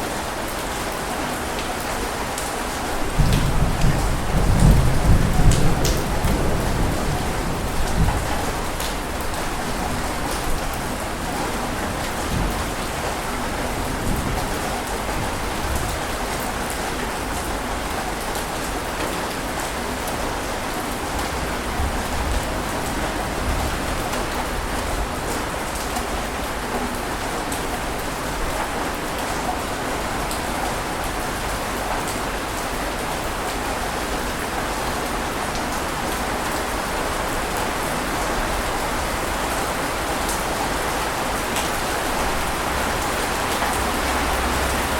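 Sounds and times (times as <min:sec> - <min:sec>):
steady water wash with crackles: 0:00.0 - 0:44.9.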